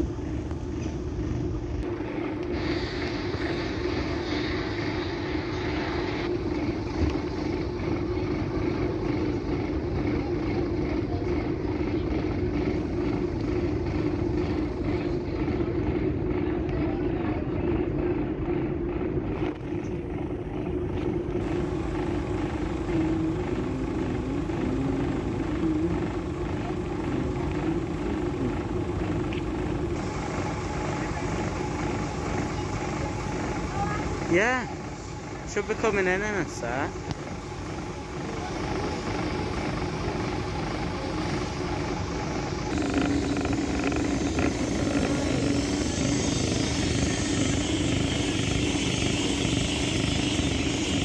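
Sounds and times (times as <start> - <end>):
train low drone: 0.0 - 51.0.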